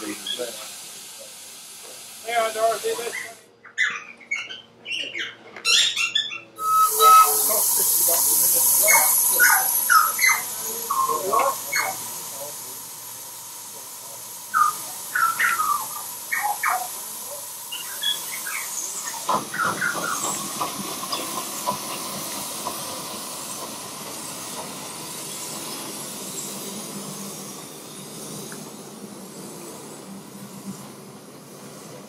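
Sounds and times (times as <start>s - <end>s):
steam locomotive chuffing: 0.0s - 3.5s, 6.6s - 32.0s
steam locomotive hissing: 0.0s - 3.5s, 6.5s - 32.0s.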